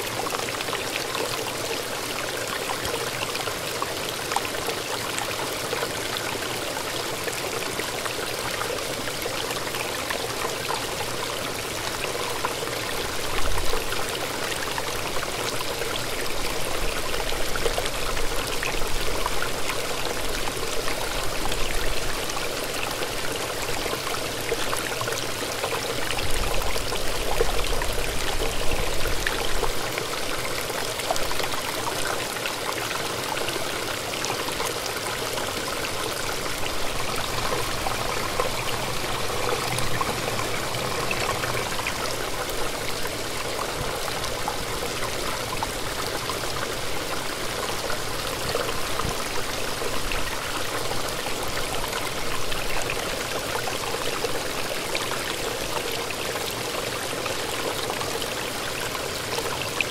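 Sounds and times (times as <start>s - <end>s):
brook water rushing: 0.0s - 59.9s.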